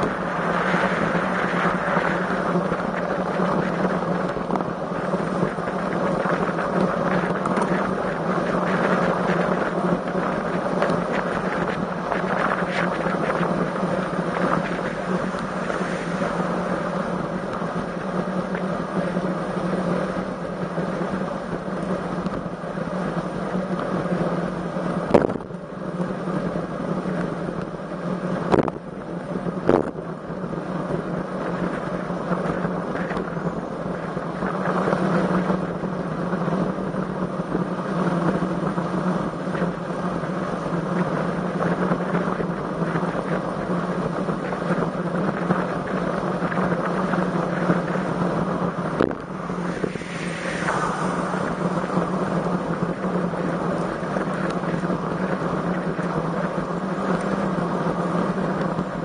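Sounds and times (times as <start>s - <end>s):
low hum: 0.0s - 59.0s
wind rushing over microphone: 0.0s - 59.0s.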